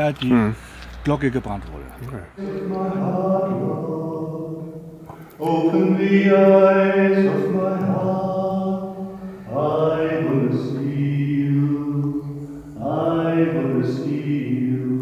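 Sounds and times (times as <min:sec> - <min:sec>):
man singing long notes: 0:02.4 - 0:15.0.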